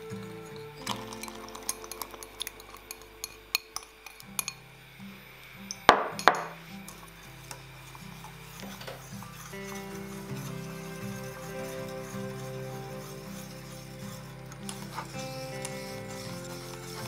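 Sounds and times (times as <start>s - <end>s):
utensils clinking against dishes: 0.0s - 4.7s, 5.6s - 17.0s
soft background music: 0.0s - 17.0s.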